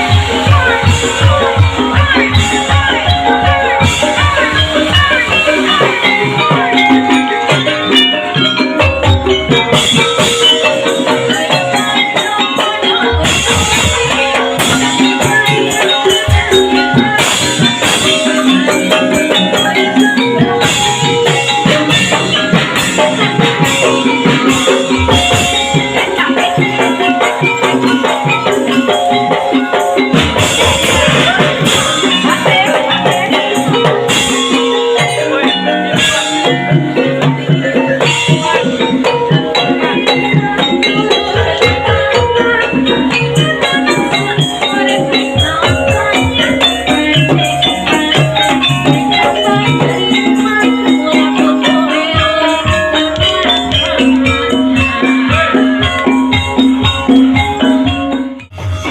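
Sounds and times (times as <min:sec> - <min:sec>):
hand drums beating: 0:00.0 - 0:58.9
ringing pitched percussion: 0:00.0 - 0:58.9.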